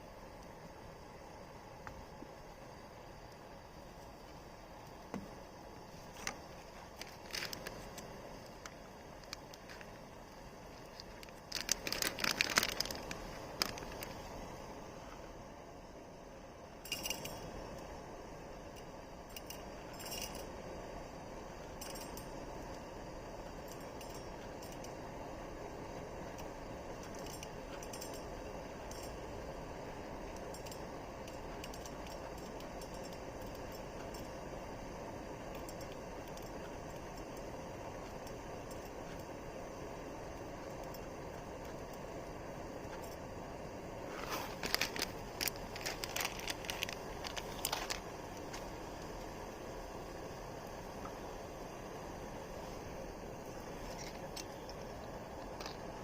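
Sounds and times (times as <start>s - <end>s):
campfire rushing and crackling: 0.0s - 56.0s.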